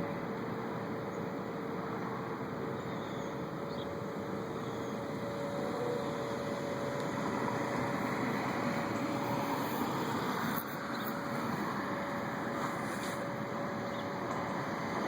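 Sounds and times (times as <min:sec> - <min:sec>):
distant droning with humming tone: 0:00.0 - 0:15.0.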